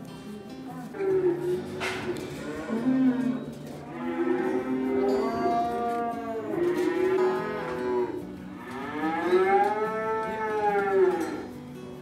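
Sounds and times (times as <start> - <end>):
cattle mooing: 1.0 - 11.5.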